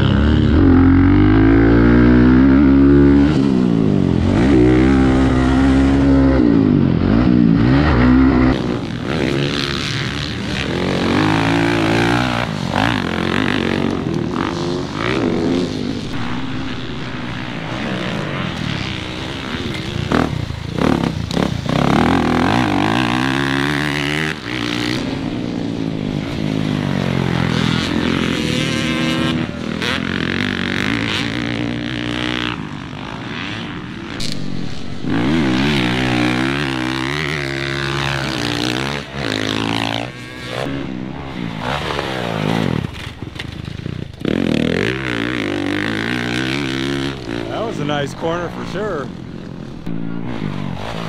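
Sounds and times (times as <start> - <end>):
motocross bikes revving: 0.0 - 51.0.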